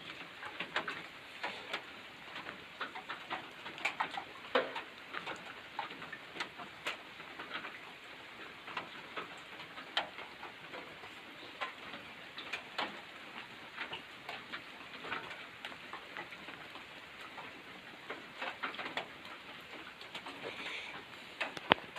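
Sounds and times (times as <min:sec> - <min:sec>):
rain drops ticking: 0:00.0 - 0:21.9
soft steady hiss: 0:00.0 - 0:21.9.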